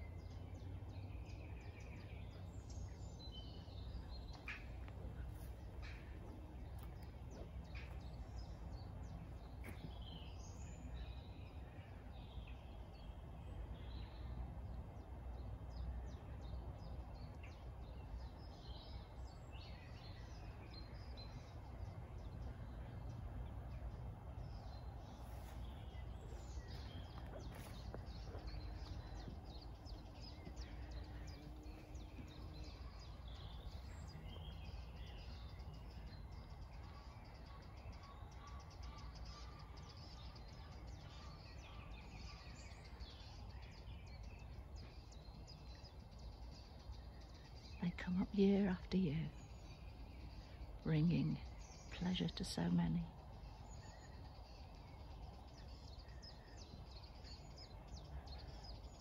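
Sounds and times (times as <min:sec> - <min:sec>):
birds chirping and singing: 0:00.0 - 0:59.0
low background rumble: 0:00.0 - 0:59.0.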